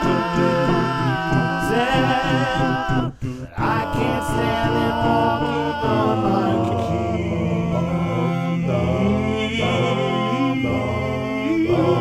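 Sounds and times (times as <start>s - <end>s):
a cappella vocal harmonies: 0.0s - 12.0s
low vocal bass pattern: 0.0s - 12.0s.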